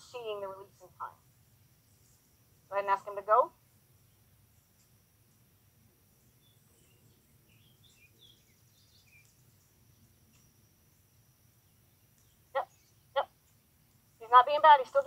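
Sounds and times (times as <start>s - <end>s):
faint bird chirps: 0.0s - 15.0s
faint high whine: 0.0s - 15.0s.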